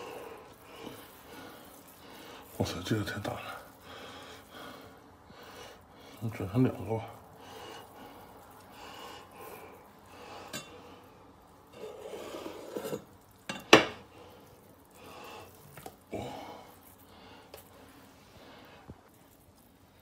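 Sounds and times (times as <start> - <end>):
soft rubbing of pork skin: 0.0 - 20.0.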